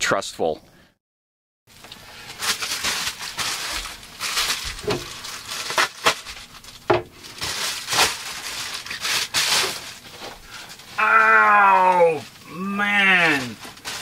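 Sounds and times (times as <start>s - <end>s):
rustling packaging: 1.7s - 14.0s.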